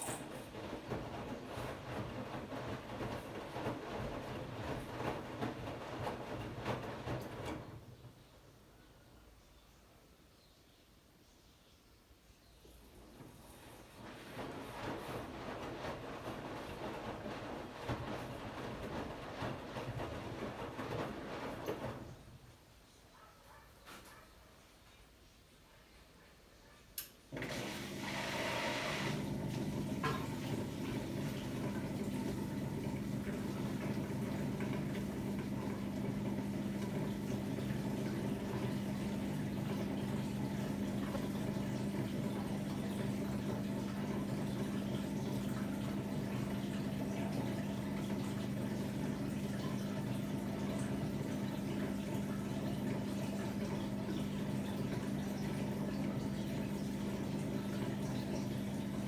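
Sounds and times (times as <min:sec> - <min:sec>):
washing machine water rushing in: 0:00.0 - 0:08.3, 0:12.7 - 0:22.5, 0:27.3 - 0:59.0.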